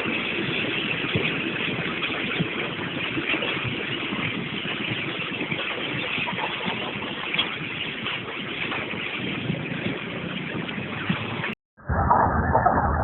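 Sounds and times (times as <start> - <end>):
rumbling road noise: 0.0 - 13.0.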